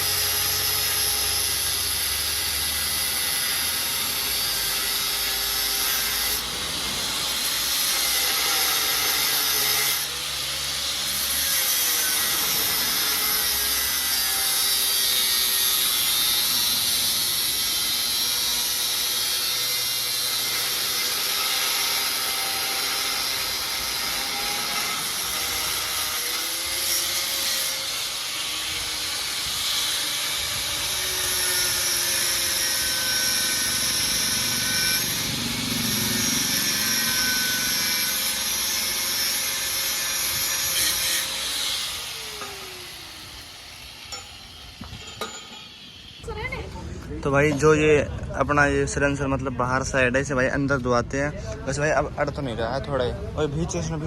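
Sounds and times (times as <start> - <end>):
angle grinder cutting metal pipe: 0.0 - 46.3.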